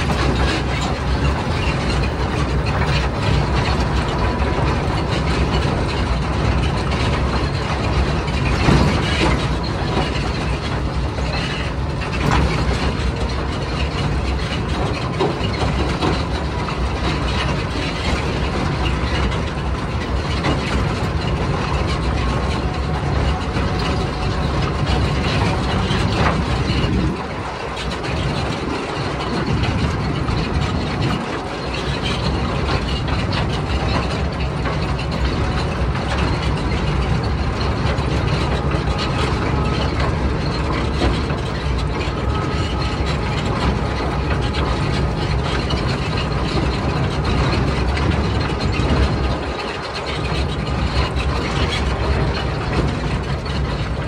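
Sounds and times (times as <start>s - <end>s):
diesel locomotive engine rumble: 0.0s - 54.0s
train rattling over track: 0.0s - 54.0s.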